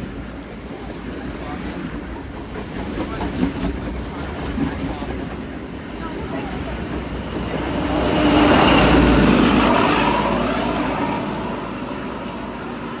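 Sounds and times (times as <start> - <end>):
train passing rushing noise: 0.0 - 13.0.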